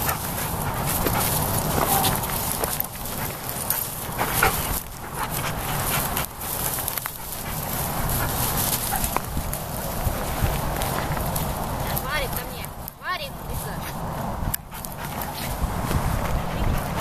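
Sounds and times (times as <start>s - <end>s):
dogs rustling through dry grass: 0.0s - 17.0s.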